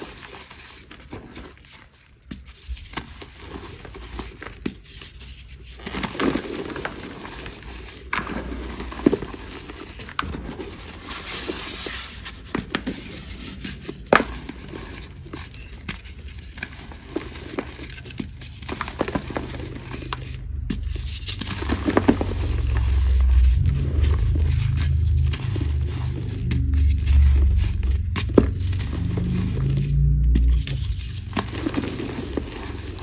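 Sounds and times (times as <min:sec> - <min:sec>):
chalk crunching: 0:00.0 - 0:33.0
powdery rubbing: 0:00.0 - 0:33.0.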